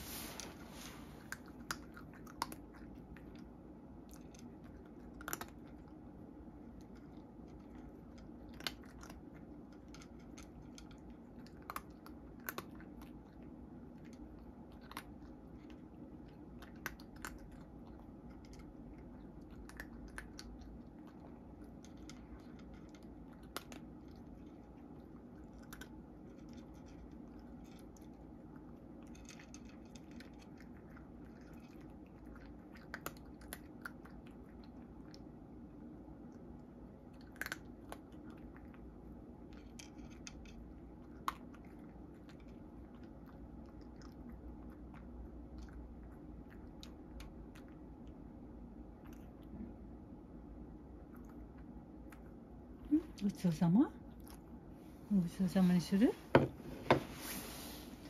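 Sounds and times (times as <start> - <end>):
cat crunching dry kibble: 0.0 - 48.3
faint steady hum: 0.0 - 58.0.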